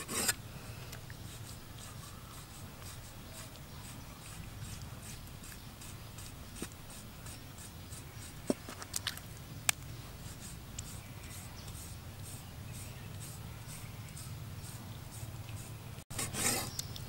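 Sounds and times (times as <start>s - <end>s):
cleaver scraping squid: 0.0s - 0.4s, 1.1s - 9.1s, 10.2s - 17.0s.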